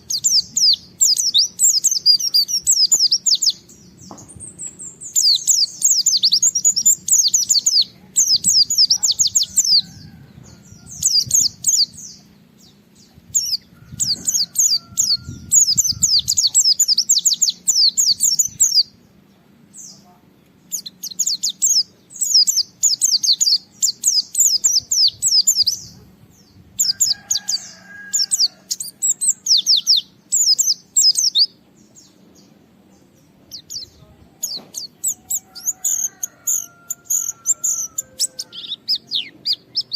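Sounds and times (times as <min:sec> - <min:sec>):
bird singing high rapid chirps: 0:00.0 - 0:19.1, 0:20.6 - 0:39.9.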